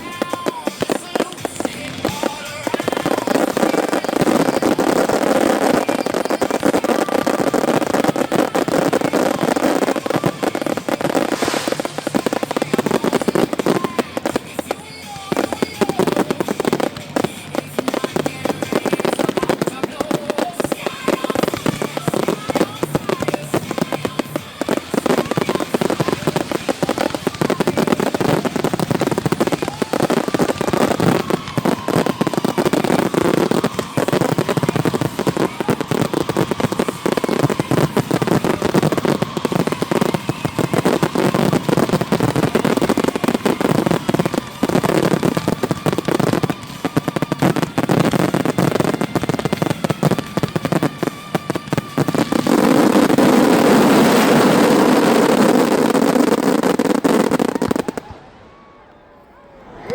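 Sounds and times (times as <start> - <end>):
fireworks bangs and crackle: 0.0 - 59.1.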